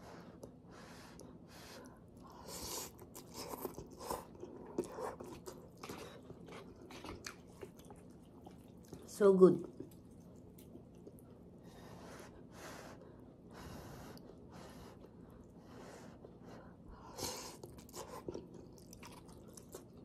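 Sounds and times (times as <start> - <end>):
light chewing: 0.0 - 20.0.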